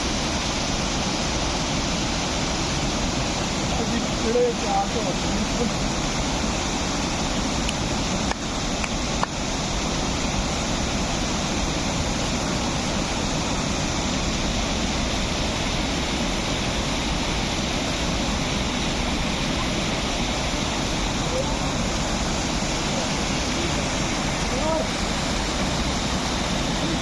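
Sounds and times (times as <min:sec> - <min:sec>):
rush of flowing water: 0:00.0 - 0:27.0.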